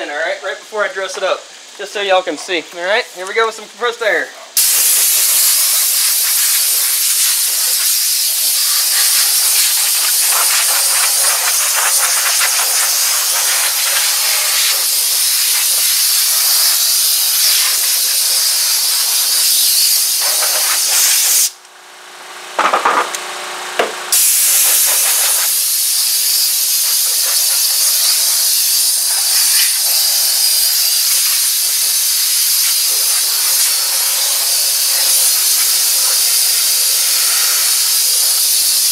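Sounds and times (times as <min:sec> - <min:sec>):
compressed air hissing: 0:04.5 - 0:21.6, 0:24.1 - 0:38.9.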